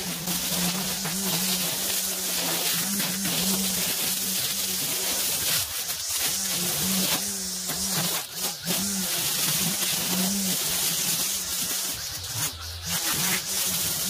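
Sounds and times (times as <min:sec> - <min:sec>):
string trimmer cutting grass: 0:00.0 - 0:14.0.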